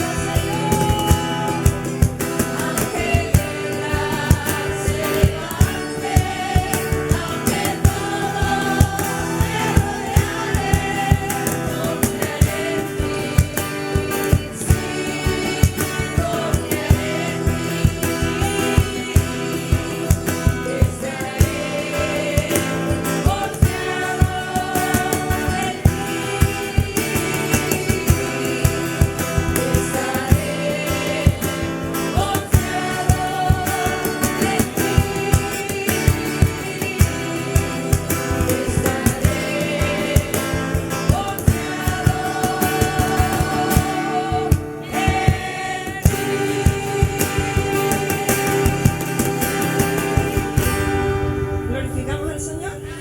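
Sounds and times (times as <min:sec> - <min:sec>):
group singing worship song: 0:00.0 - 0:51.9
steady beat of sharp strikes: 0:01.1 - 0:53.0.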